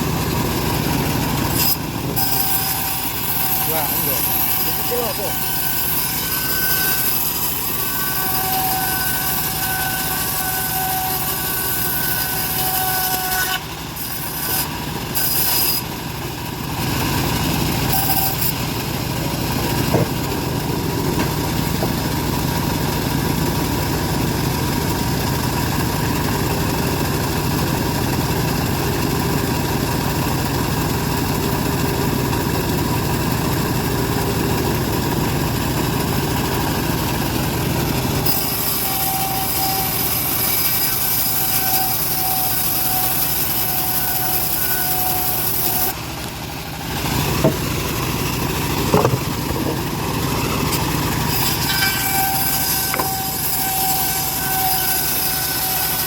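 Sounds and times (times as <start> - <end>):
band saw running: 0.0 - 56.0.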